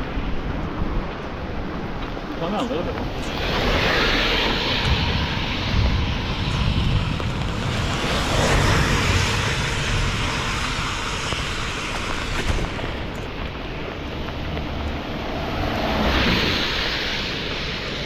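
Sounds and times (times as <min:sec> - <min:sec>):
rain: 0:00.0 - 0:18.0
wind buffeting microphone: 0:00.0 - 0:18.0.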